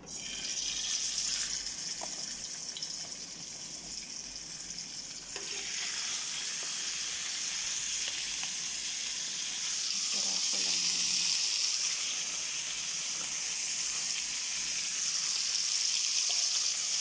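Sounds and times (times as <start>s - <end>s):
meat sizzling in oil: 0.1s - 17.0s.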